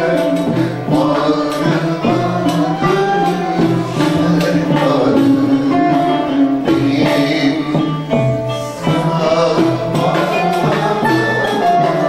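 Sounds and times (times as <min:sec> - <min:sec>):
light percussion: 0:00.0 - 0:12.0
man singing: 0:00.0 - 0:12.0
plucked strings: 0:00.0 - 0:12.0.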